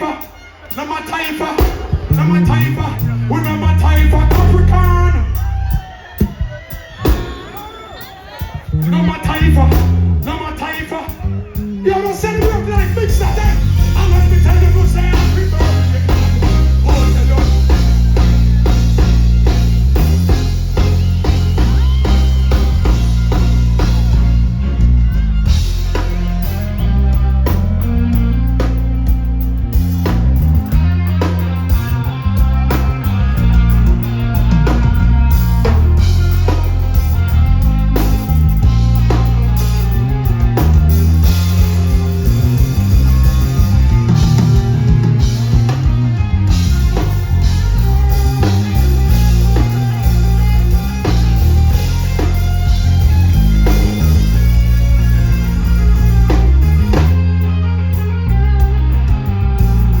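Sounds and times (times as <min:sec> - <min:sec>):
instrumental reggae band music: 0:00.0 - 1:00.0.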